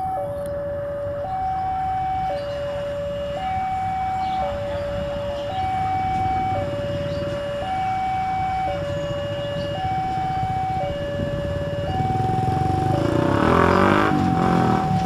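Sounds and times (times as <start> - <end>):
diesel locomotive engine rumbling: 0.0 - 15.0
two-tone crossing alarm: 0.0 - 15.0.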